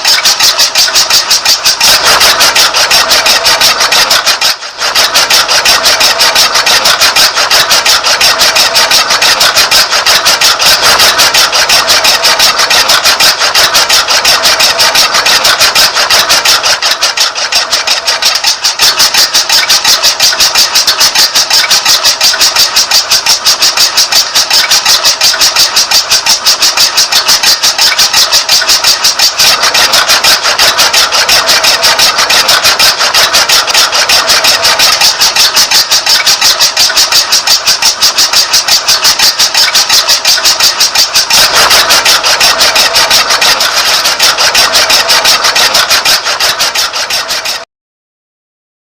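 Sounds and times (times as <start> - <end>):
small electric motor buzzing: 0.0 - 47.6.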